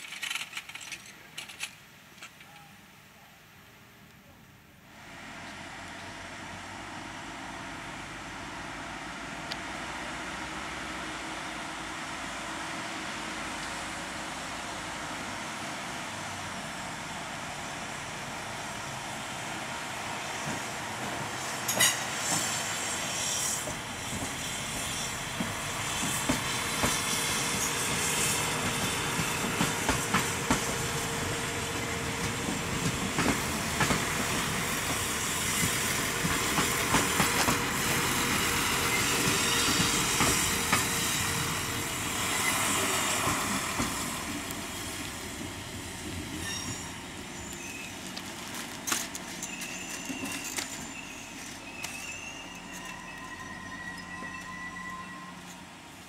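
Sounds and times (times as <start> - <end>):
railbus running noise: 0.0 - 56.0.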